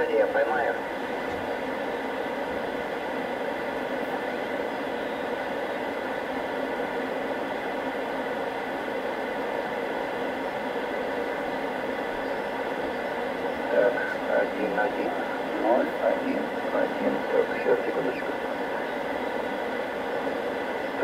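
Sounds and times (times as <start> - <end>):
faint steady tones: 0.0 - 21.0
shortwave radio hiss: 0.0 - 21.0.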